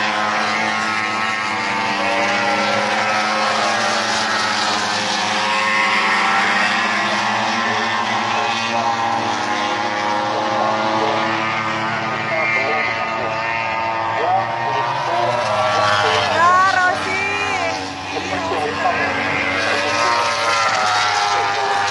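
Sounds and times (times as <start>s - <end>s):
race motorcycle engines droning: 0.0s - 21.9s.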